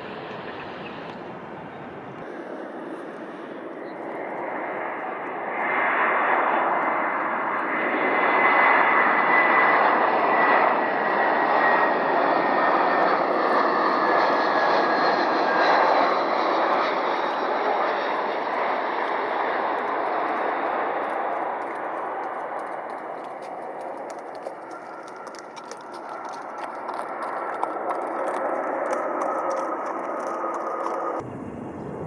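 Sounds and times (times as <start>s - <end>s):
jet engines passing by: 0.0s - 32.0s.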